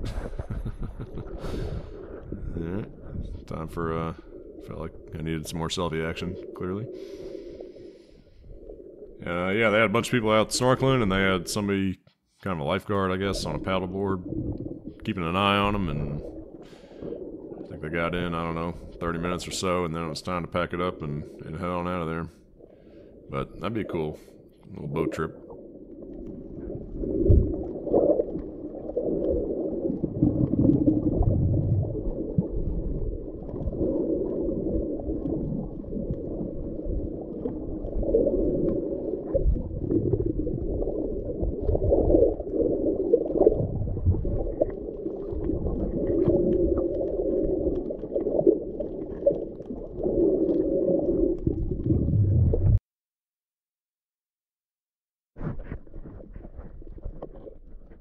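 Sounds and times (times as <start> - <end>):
muffled underwater gurgling: 0.0 - 11.8, 12.6 - 52.8.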